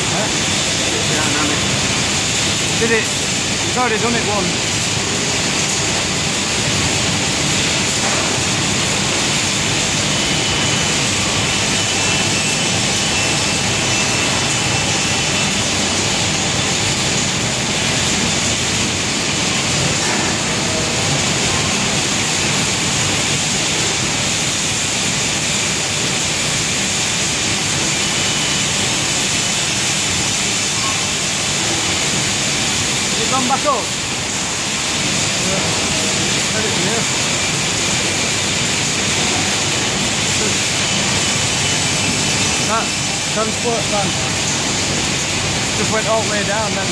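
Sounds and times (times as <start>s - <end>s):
machinery rushing noise: 0.0s - 46.9s.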